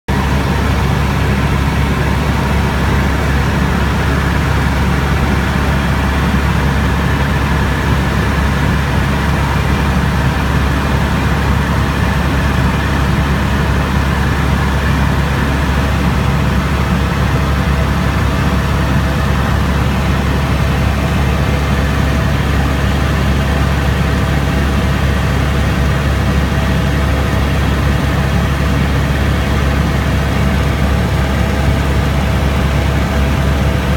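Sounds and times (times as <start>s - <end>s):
helicopter rotor and engine drone: 0.1s - 33.9s.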